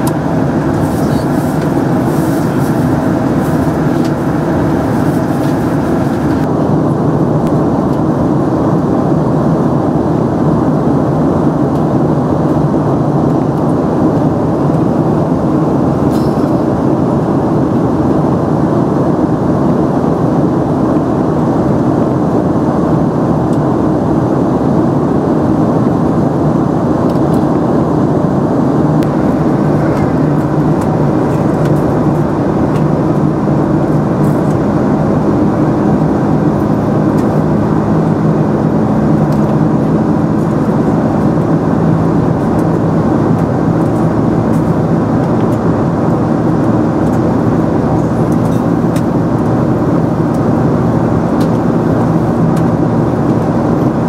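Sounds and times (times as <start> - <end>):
airplane cabin noise: 0.0 - 54.0
jet engines droning: 0.0 - 54.0.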